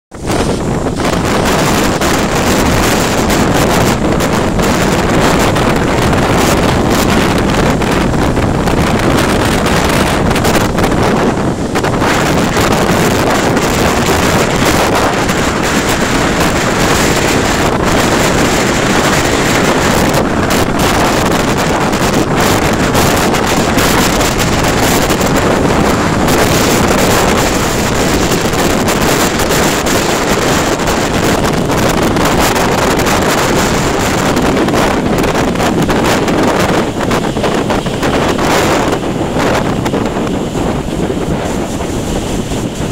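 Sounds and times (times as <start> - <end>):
gale buffeting the microphone: 0.1 - 42.9
rough surf against a seawall: 0.1 - 42.9.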